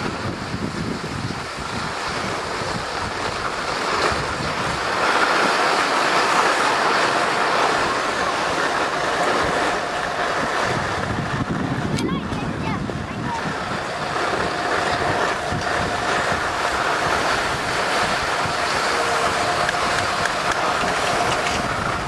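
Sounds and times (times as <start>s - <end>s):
skis sliding over snow: 0.0s - 11.5s, 12.6s - 22.0s
wind buffeting microphone: 0.0s - 22.0s.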